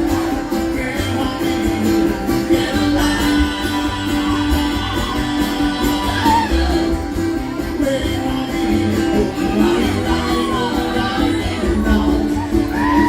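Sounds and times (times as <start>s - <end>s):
acoustic string band playing: 0.0s - 13.0s
strummed acoustic guitar: 0.0s - 13.0s.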